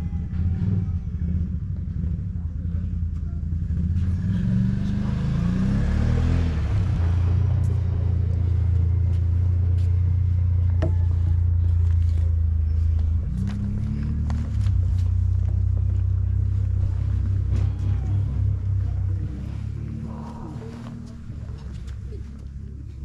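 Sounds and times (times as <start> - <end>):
low motor hum: 0.0 - 23.0.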